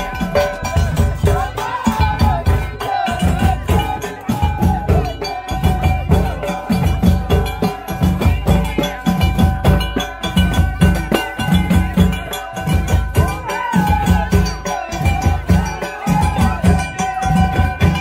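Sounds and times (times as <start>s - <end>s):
fast dense drumming: 0.0s - 18.0s.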